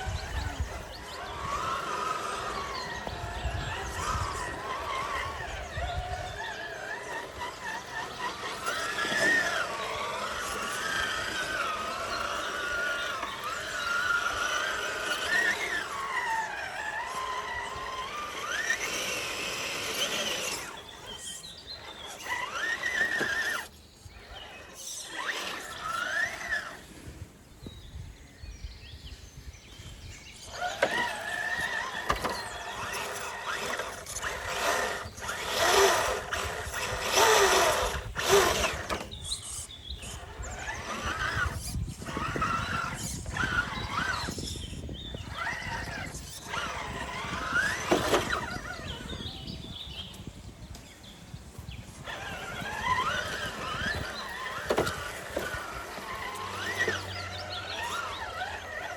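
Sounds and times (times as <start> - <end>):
electric motor whining: 0.0 - 28.7, 29.6 - 58.9.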